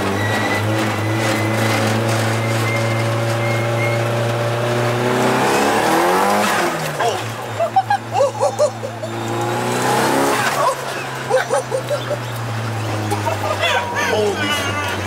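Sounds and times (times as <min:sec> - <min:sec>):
car engine droning and revving: 0:00.0 - 0:15.0.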